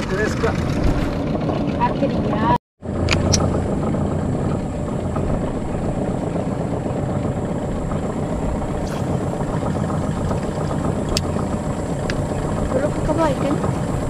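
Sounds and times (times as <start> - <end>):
boat motor rumbling: 0.0 - 14.0.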